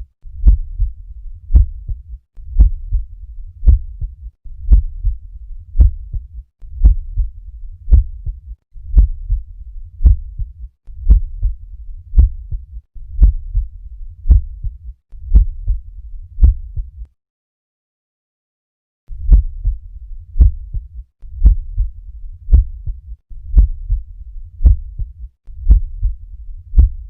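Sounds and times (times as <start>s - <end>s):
heartbeat lub-dub: 0.3s - 17.1s, 19.2s - 27.0s.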